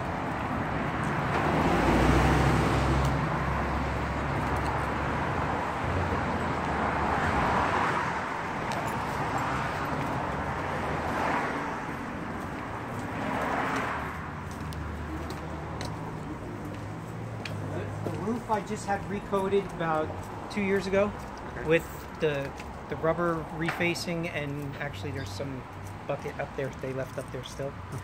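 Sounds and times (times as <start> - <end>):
cars passing: 0.0 - 28.0
road traffic noise: 0.0 - 28.0.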